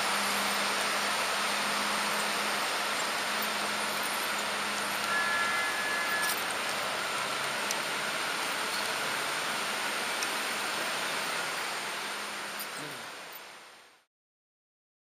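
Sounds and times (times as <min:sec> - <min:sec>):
model train rolling on track: 0:00.0 - 0:13.8
faint motor whine: 0:00.0 - 0:14.1.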